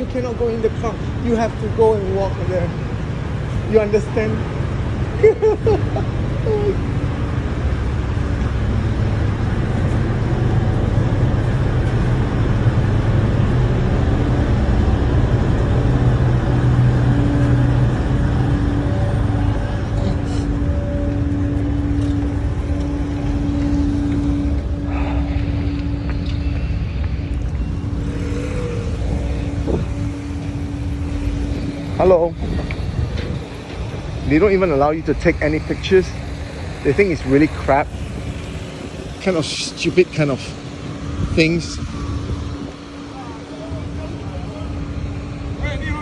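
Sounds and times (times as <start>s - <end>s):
ferry engines rumbling and droning: 0.0s - 46.0s.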